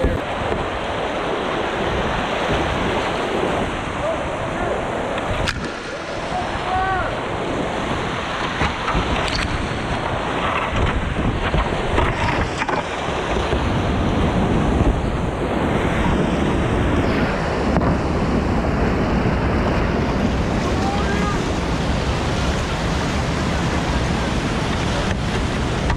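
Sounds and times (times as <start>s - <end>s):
whitewater rushing loudly: 0.0s - 25.9s.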